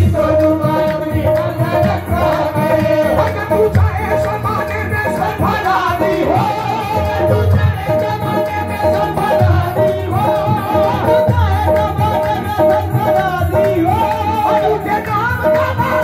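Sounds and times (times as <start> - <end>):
dholak drum strokes: 0.0 - 16.0
harmoniums: 0.0 - 16.0
men singing qawwali: 0.0 - 16.0.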